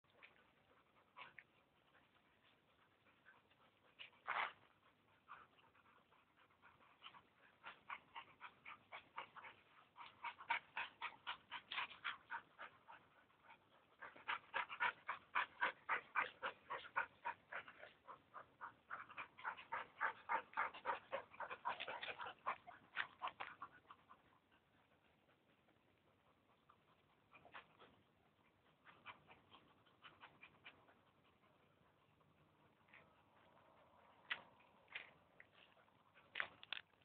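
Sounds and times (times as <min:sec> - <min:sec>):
dog panting quickly: 0:00.1 - 0:34.2.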